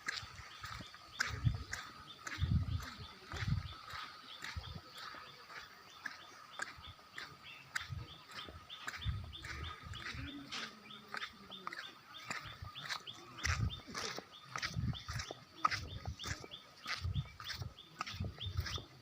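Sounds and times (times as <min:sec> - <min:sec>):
birds chirping: 0:00.0 - 0:19.0
dull low thumps: 0:00.1 - 0:05.0, 0:06.7 - 0:19.0.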